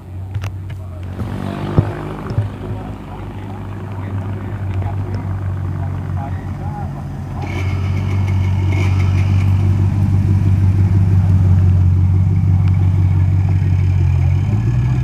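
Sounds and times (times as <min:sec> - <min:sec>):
car engine rumbling past: 0:00.0 - 0:15.0.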